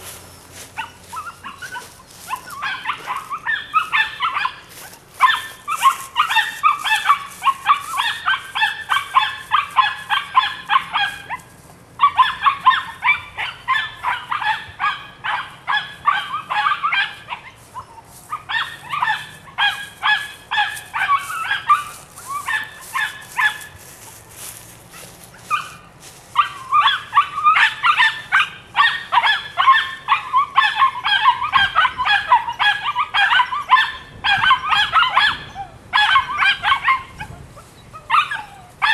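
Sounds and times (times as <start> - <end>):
puppy yapping: 0.8 - 23.8, 24.9 - 38.9.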